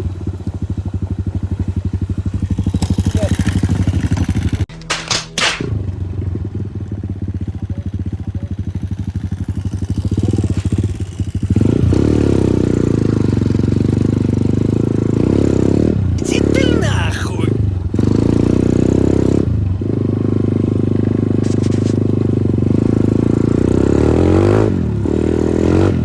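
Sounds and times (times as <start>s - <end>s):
motorcycle engine idling and revving: 0.0s - 4.7s, 5.4s - 16.5s, 17.5s - 26.0s.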